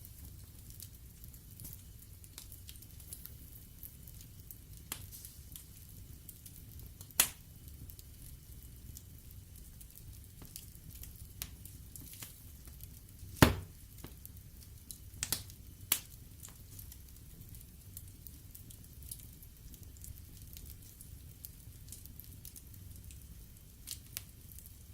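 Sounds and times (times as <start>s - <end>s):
fire crackles and pops: 0.0s - 24.9s
low rumble of flame: 0.0s - 24.9s.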